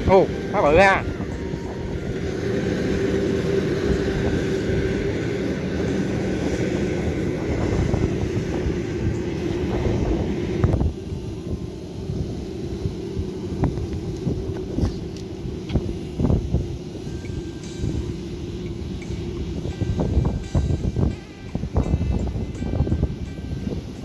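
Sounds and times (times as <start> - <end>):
engine droning hum: 0.0 - 24.0.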